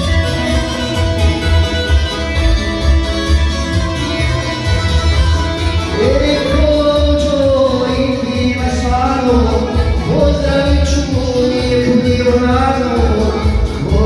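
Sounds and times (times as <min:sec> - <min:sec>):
plucked-string lead melody: 0:00.0 - 0:14.0
steady bass beat: 0:00.0 - 0:14.0.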